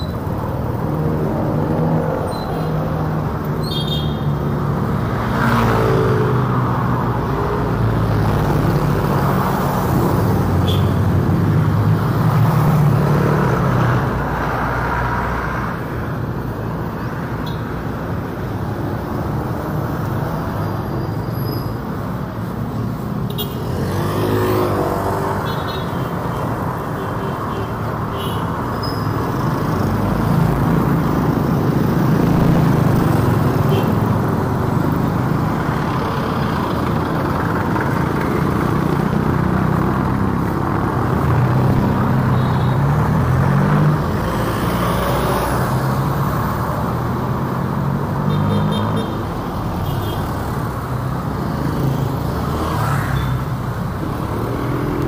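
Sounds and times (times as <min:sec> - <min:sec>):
cars passing close by: 0:00.0 - 0:27.0, 0:27.9 - 0:55.0.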